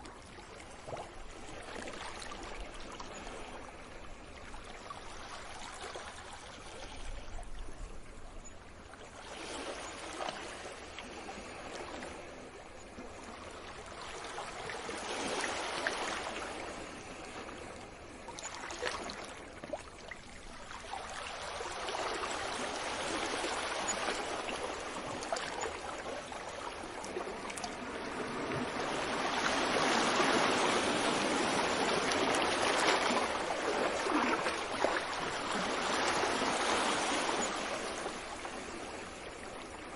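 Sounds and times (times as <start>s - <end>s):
waves washing onto beach: 0.0s - 39.9s.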